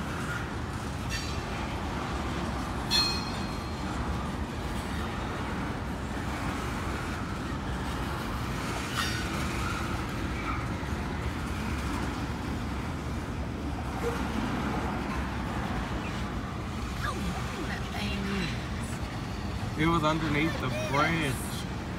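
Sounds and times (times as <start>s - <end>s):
freight train cars rumbling: 0.0s - 21.9s.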